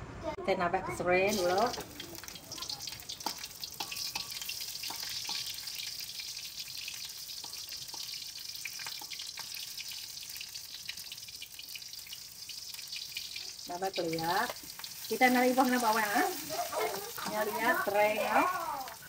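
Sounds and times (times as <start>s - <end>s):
lemongrass sizzling in hot oil: 1.3s - 19.0s
oil crackles and pops: 1.3s - 19.0s.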